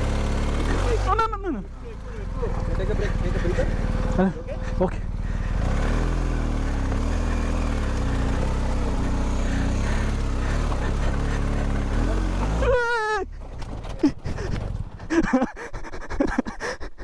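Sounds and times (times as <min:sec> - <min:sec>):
motorcycle engine revving under load: 0:00.0 - 0:15.0.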